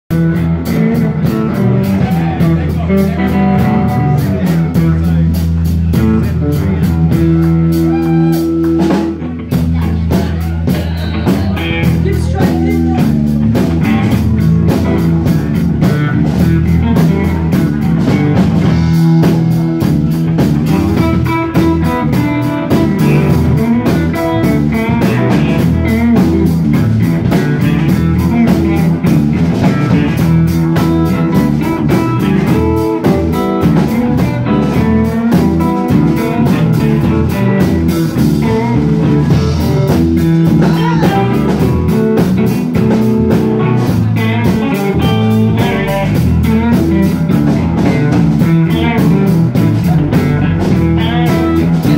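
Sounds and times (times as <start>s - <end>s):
bass guitar: 0.0s - 51.9s
drum kit: 0.1s - 51.9s
electric guitars: 0.1s - 51.9s.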